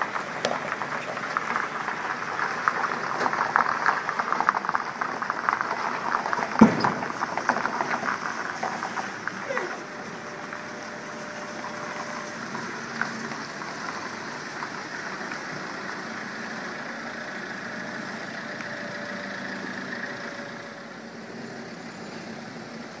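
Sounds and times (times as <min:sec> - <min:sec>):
lorry engine running: 0:00.0 - 0:23.0.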